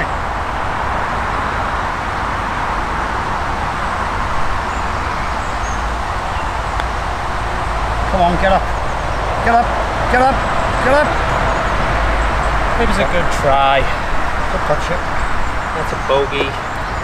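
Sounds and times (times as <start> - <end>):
wind hissing through trees: 0.0 - 17.0
wind rumble on microphone: 0.0 - 17.0.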